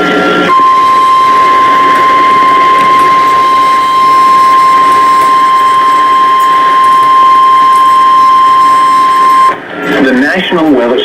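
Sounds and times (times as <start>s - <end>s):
steady emergency alert tone: 0.4s - 9.7s.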